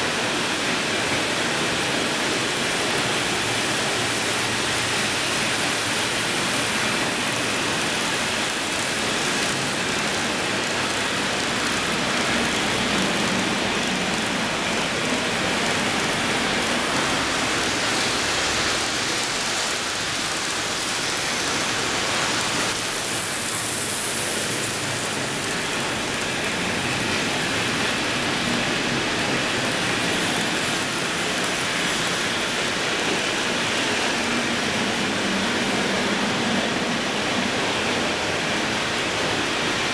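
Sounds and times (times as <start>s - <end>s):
model trains rolling hiss: 0.0s - 39.9s.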